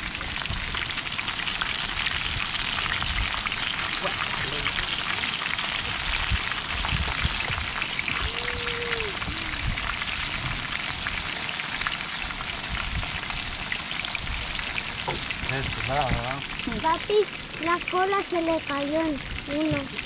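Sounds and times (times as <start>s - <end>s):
oil sizzling and crackling: 0.0s - 20.0s.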